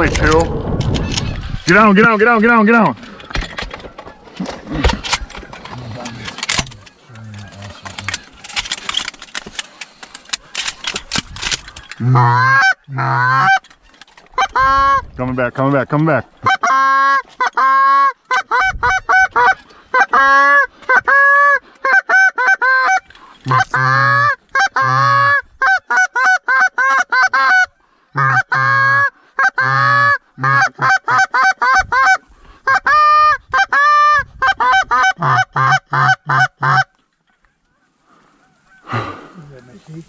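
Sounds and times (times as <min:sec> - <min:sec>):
goose call clucks and honks: 0:03.4 - 0:09.2, 0:10.3 - 0:15.1, 0:16.4 - 0:40.0.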